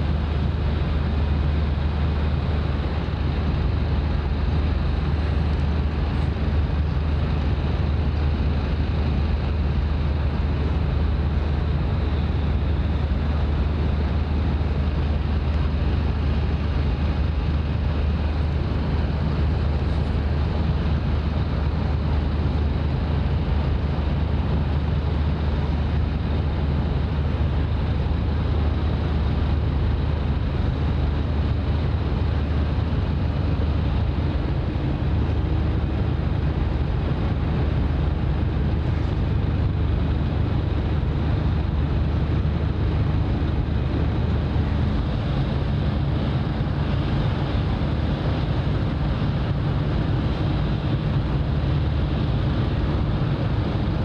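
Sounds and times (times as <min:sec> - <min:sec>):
ship engine rumble: 0:00.0 - 0:54.0
wind noise on microphone: 0:00.0 - 0:54.0.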